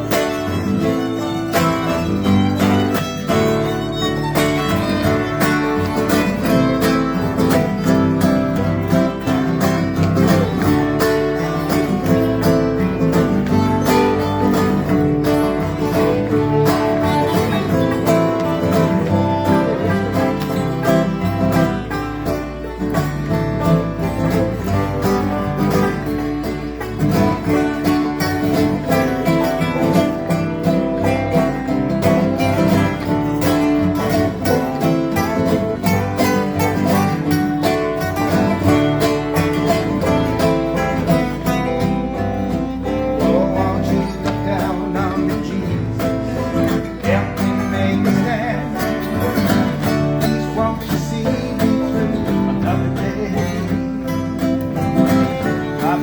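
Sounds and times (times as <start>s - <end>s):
bluegrass string band: 0.0s - 56.0s.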